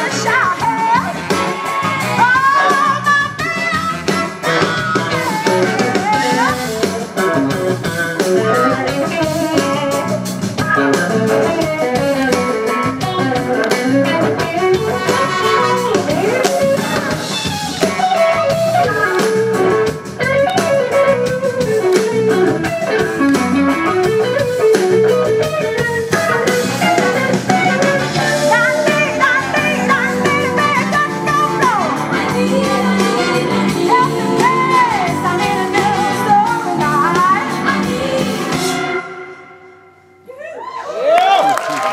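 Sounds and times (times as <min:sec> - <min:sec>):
bass: 0:00.0 - 0:39.2
keyboards: 0:00.0 - 0:40.3
electric guitar lead: 0:00.0 - 0:40.7
drums: 0:00.0 - 0:41.9.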